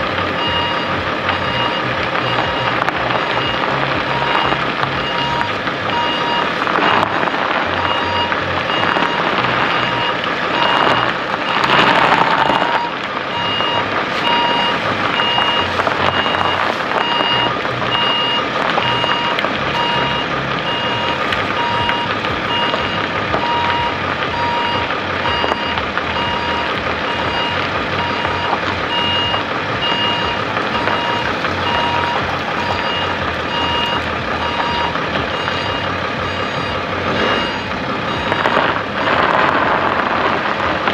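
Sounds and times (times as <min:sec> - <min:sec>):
steady rushing noise: 0:00.0 - 0:40.9
vehicle backup alarm beeping: 0:00.0 - 0:40.9.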